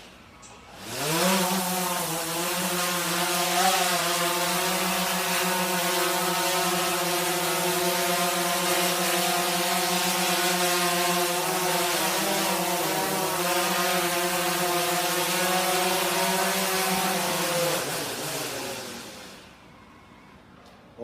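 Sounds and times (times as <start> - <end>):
drone propellers buzzing: 0.8 - 19.6.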